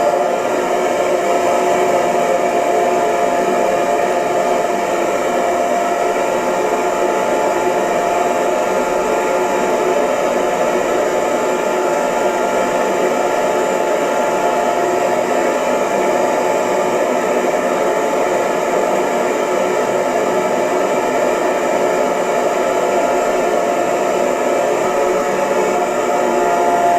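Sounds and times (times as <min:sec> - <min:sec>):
hair dryer blowing: 0:00.0 - 0:26.9.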